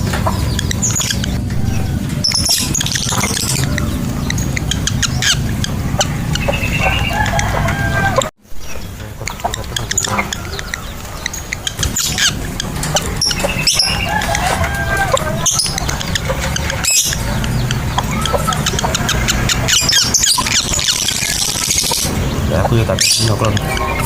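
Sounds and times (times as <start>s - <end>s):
lovebirds chirping and shrieking: 0.0s - 24.0s.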